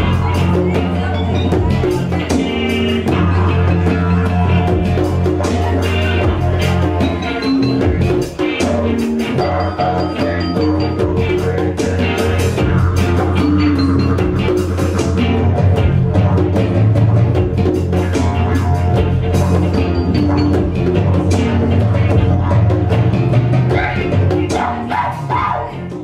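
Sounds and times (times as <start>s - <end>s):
bass guitar: 0.0s - 26.0s
congas: 0.0s - 26.0s
didgeridoo drone: 0.0s - 26.0s
electric guitar: 0.0s - 26.0s.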